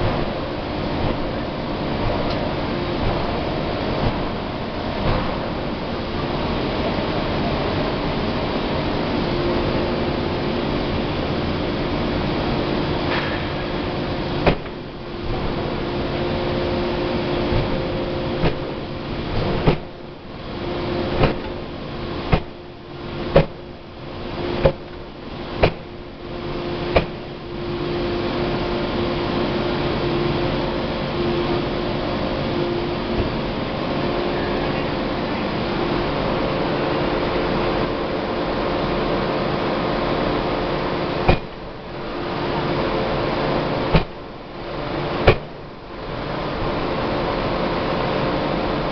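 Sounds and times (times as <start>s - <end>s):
machinery hum: 0.0s - 48.9s.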